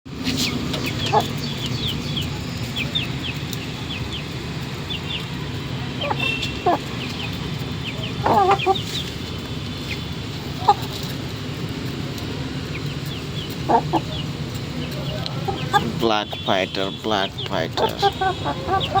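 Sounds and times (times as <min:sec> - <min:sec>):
chickens clucking: 0:00.1 - 0:19.0
small birds chirping: 0:00.1 - 0:19.0.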